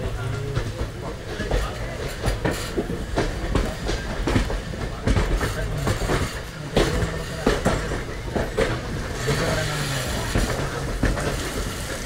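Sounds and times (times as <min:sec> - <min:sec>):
train wheels rumbling: 0:00.0 - 0:12.0
wheels clacking over rail joints: 0:00.0 - 0:12.0.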